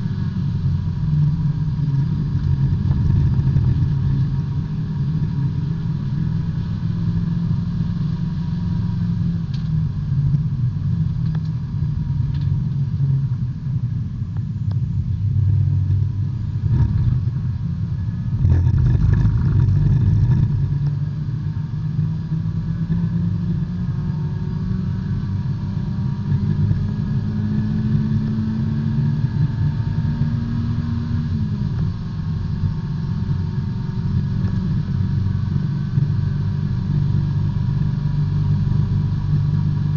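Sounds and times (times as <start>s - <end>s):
race car engine from cabin: 0.0s - 39.9s.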